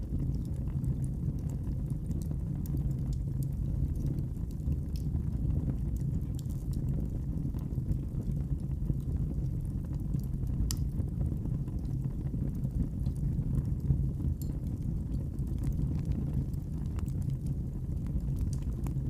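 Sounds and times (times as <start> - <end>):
fire crackling and popping: 0.0 - 19.0
fire low rumble: 0.0 - 19.0.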